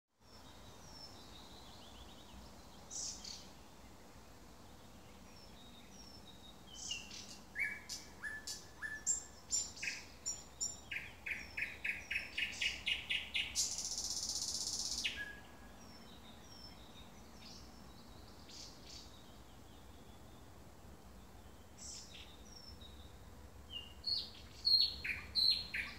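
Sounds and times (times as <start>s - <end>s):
bird singing: 0.2s - 4.0s, 4.6s - 25.9s
steady background hiss: 0.2s - 25.9s.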